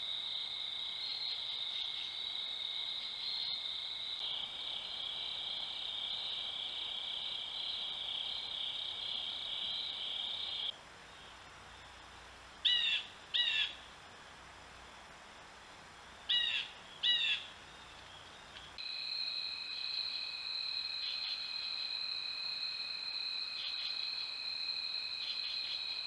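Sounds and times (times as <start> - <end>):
night insects trilling: 0.0 - 13.9, 16.2 - 26.0.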